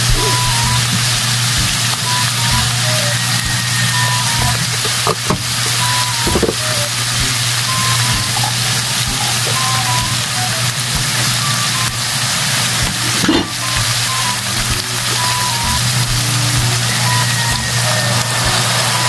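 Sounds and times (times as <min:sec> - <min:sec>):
faint musical tones: 0:00.0 - 0:19.0
food sizzling in wok: 0:00.0 - 0:19.0.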